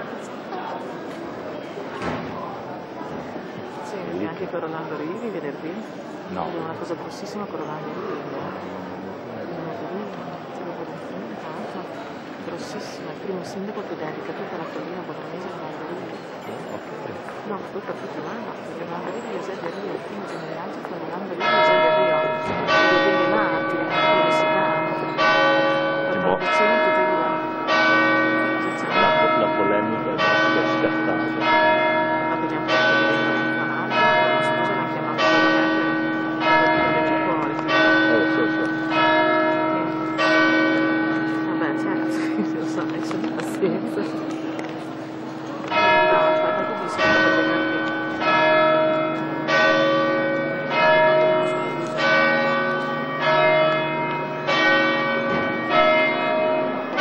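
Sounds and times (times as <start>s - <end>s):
church bell tolling: 9.9s - 57.0s.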